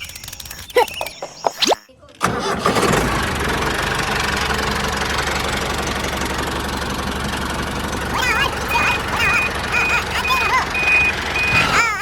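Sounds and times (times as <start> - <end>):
engine starting and running: 0.0 - 1.4, 2.1 - 12.0.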